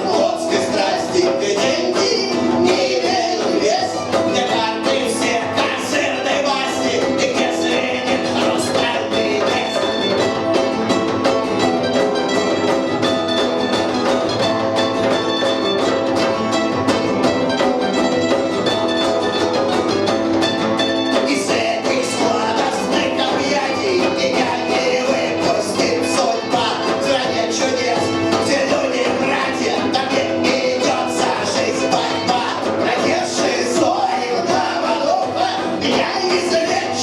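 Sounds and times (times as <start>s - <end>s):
punk rock band playing live: 0.0s - 37.0s.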